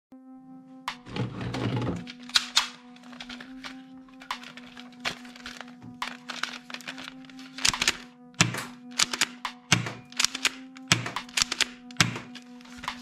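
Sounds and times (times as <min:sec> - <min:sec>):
background music: 0:00.1 - 0:13.0
plastic toy guns clicking: 0:02.1 - 0:13.0.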